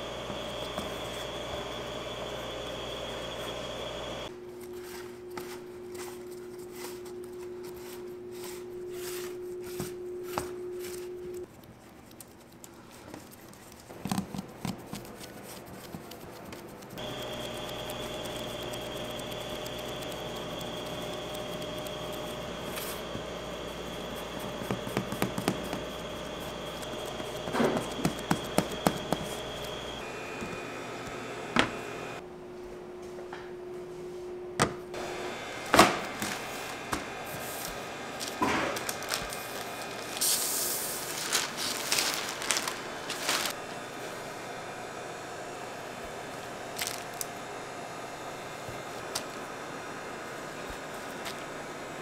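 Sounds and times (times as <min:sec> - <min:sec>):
steady machine hum: 0:00.0 - 0:11.5, 0:16.7 - 0:52.0.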